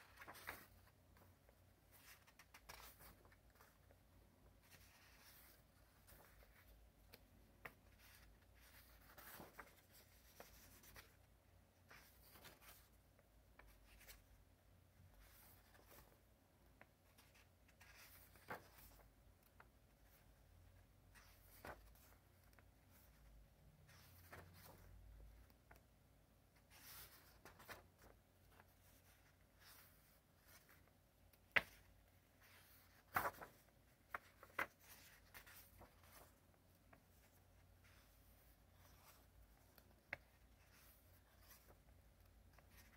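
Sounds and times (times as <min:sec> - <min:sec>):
paper pages rustling and turning: 0:00.0 - 0:23.2, 0:23.8 - 0:42.9.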